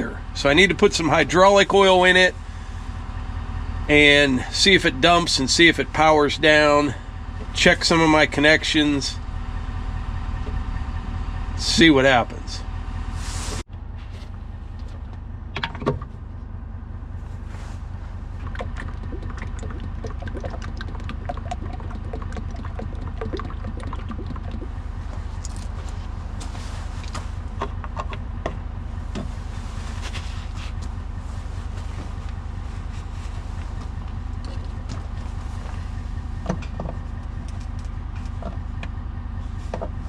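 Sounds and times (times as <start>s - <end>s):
vehicle engine idling: 0.0s - 40.0s.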